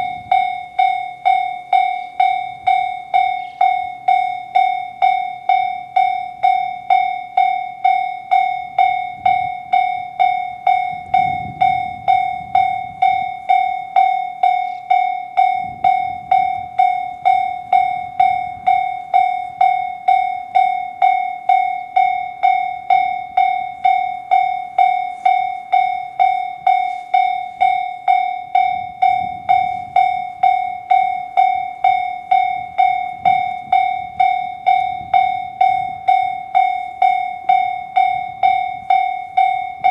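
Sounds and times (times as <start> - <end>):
level-crossing electronic bell: 0.0 - 39.9.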